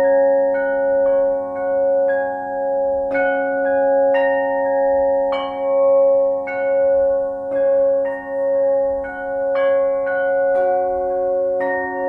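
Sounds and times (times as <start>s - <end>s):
flat bells struck with mallet: 0.0s - 12.0s.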